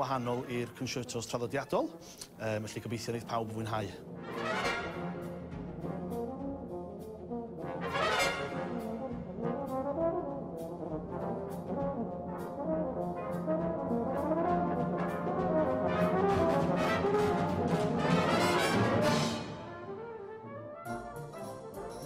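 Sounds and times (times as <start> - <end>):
brass band playing: 4.0 - 22.0
solo euphonium melody: 4.3 - 22.0.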